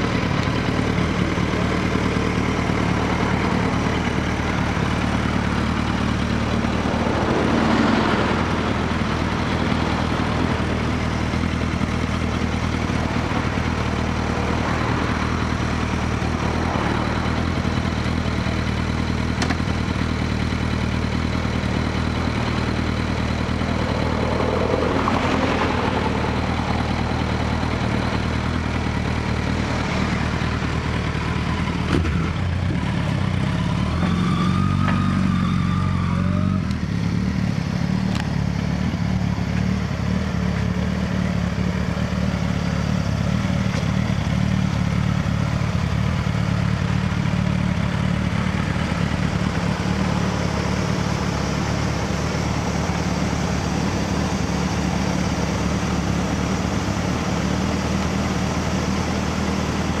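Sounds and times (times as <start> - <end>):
motorcycle engine running low revs: 0.0 - 60.0.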